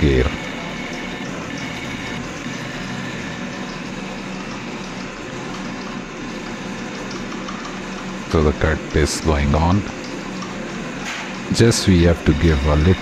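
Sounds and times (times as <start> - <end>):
lathe machining metal: 0.0 - 13.0.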